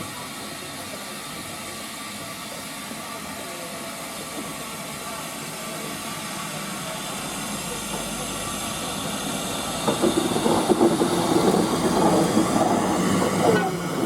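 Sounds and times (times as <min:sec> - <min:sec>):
steam train hissing: 0:00.0 - 0:14.0.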